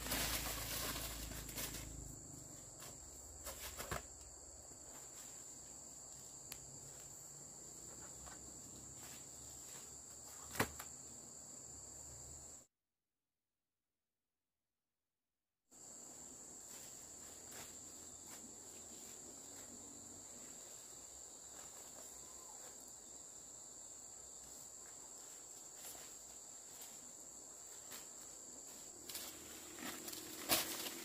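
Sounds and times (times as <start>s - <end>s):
insects chirring: 0.0s - 12.6s, 15.8s - 31.0s.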